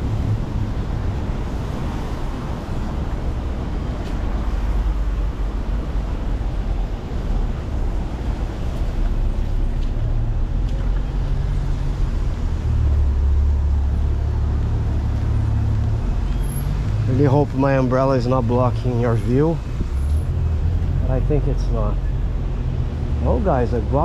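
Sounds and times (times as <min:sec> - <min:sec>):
city road traffic: 0:00.0 - 0:24.0
heavy vehicle engine rumbling: 0:00.0 - 0:24.0.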